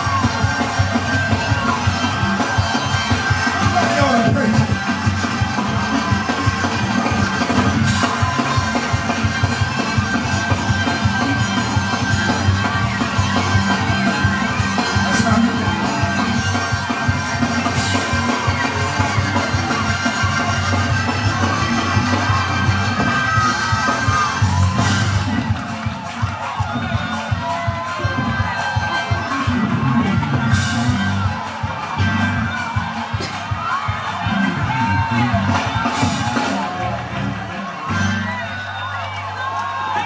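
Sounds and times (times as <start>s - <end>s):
band playing up-tempo praise music: 0.0s - 40.0s
congregation shouting and singing: 0.0s - 40.0s.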